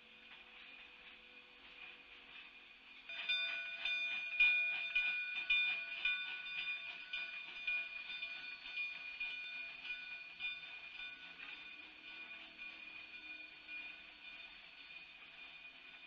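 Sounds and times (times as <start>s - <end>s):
steam locomotive chuffing: 0.0s - 16.0s.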